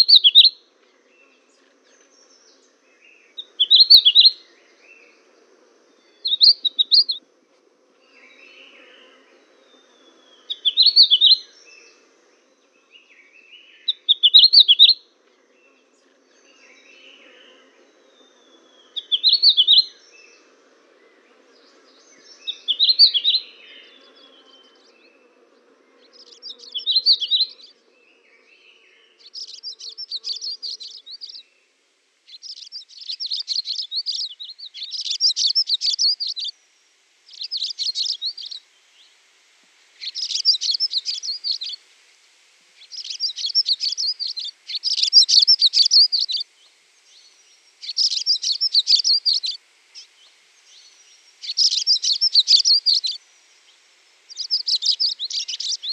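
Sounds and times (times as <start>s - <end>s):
songbirds chirping and twittering: 0.0s - 55.9s.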